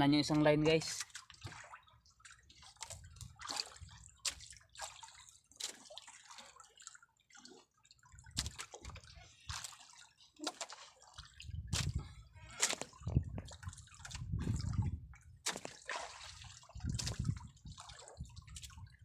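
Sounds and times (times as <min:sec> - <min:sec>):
water slapping against boat hull: 0:00.6 - 0:19.0.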